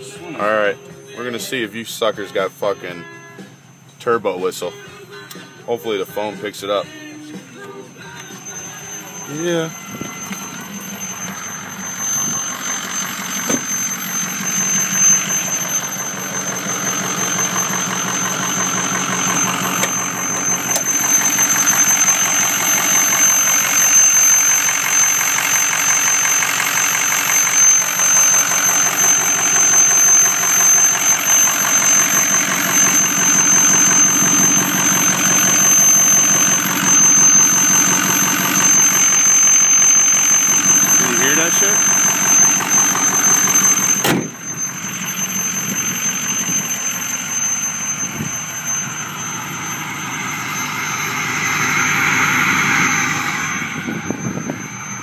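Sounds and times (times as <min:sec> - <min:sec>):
diesel engine running: 0:00.0 - 0:55.0
high-pitched turbo whistle: 0:05.9 - 0:55.0.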